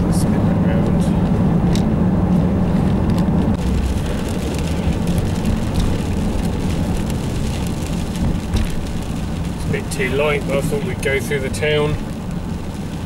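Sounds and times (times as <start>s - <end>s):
tyre and road noise: 0.0s - 13.0s
van engine drone: 0.0s - 13.0s.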